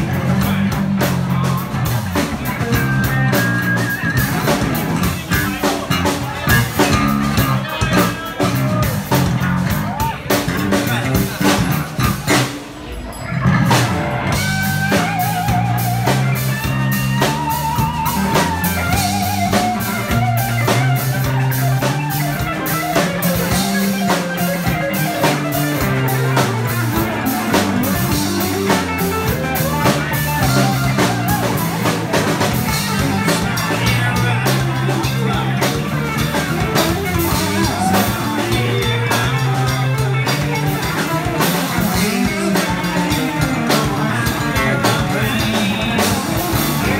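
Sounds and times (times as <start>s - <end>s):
live band playing amplified music: 0.0s - 46.9s.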